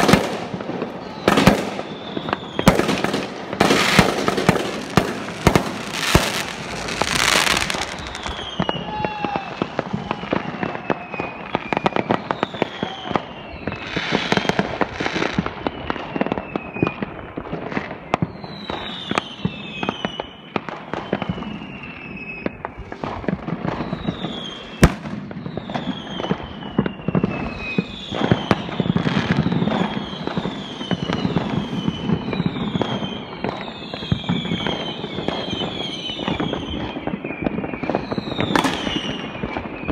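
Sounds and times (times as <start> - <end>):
fireworks bangs and crackles: 0.0 - 39.9
fireworks falling whistles: 0.0 - 39.9.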